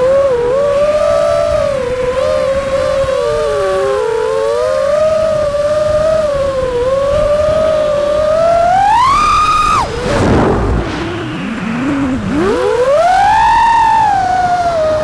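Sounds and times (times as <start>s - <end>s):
quadcopter motors whining: 0.0s - 15.0s
rush of wind: 0.0s - 15.0s.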